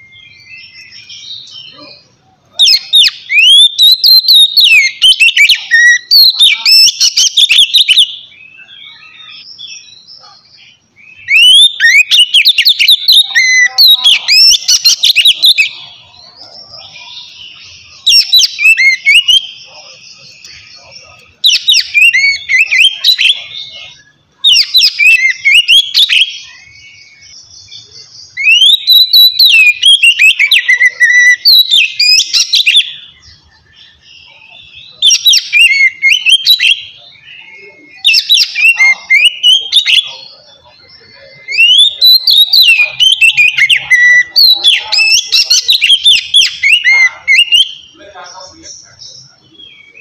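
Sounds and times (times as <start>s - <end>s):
bird singing whistled phrases: 0.0s - 48.2s.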